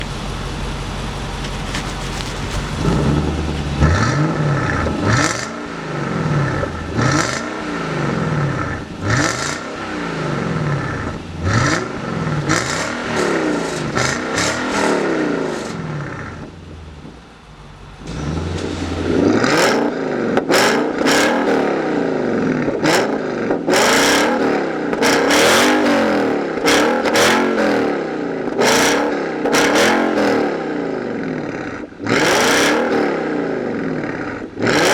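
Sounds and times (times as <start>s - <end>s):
car engine revving: 0.0s - 34.9s
exhaust crackling: 0.0s - 34.9s.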